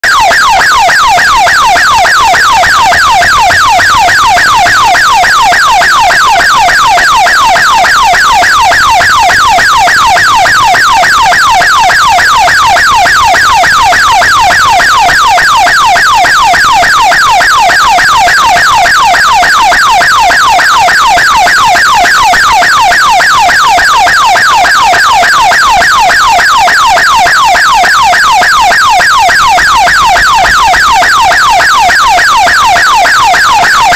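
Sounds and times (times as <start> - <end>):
electronic siren yelping: 0.0 - 33.9.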